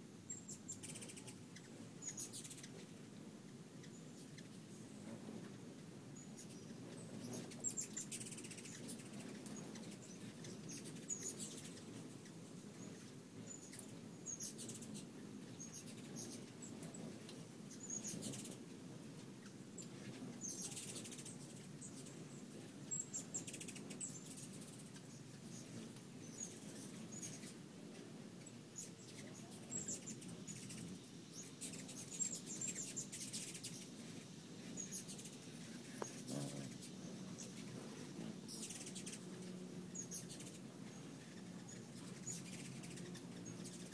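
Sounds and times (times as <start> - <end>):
faint low hum: 0.0 - 43.9
hummingbirds chirping: 0.1 - 43.9.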